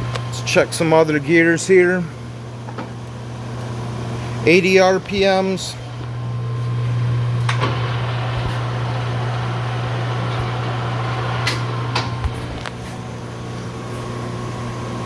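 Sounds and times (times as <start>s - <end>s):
lathe motor and gearbox hum: 0.0s - 15.0s.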